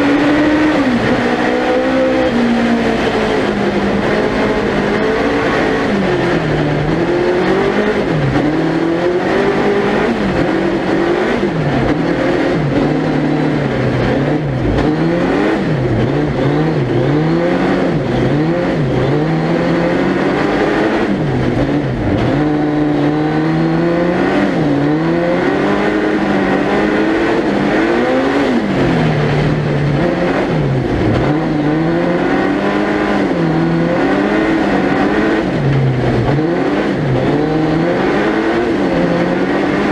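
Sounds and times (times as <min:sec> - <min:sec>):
racing engine revving hard: 0:00.0 - 0:39.9.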